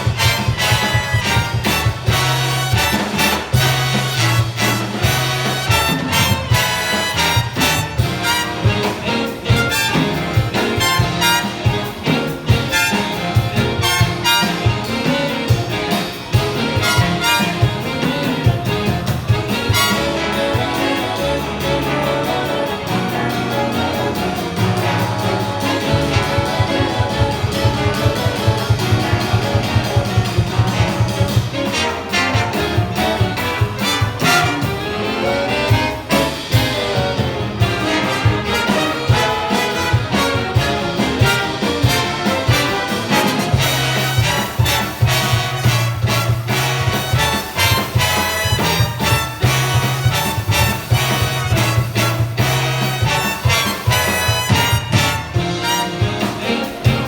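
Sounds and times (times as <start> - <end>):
bass and drums: 0.0 - 57.0
big band jazz: 0.0 - 57.0
brass section: 0.0 - 57.0.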